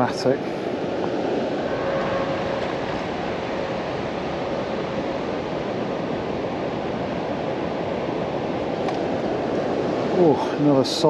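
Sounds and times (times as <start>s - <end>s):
water roaring over a weir: 0.0s - 11.0s.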